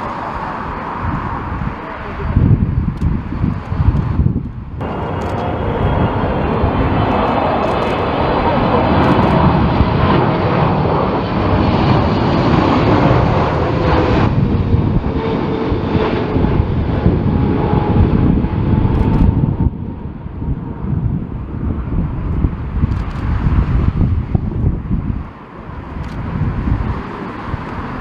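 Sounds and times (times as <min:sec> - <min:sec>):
jet engines passing: 0:00.0 - 0:28.0.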